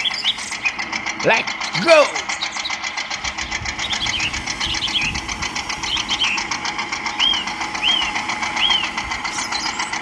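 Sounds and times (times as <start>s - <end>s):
small motor knocking rapidly: 0.0s - 10.0s.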